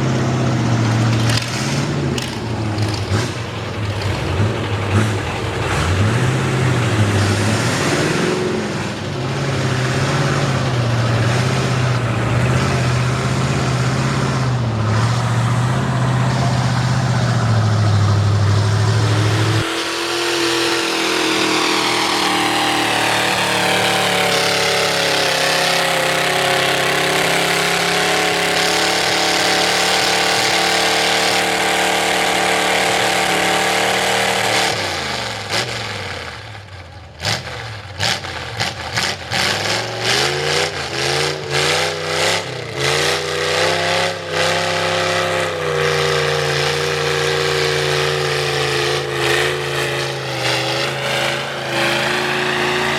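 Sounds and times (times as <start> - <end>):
truck engine revving with cracks: 0.0 - 52.9.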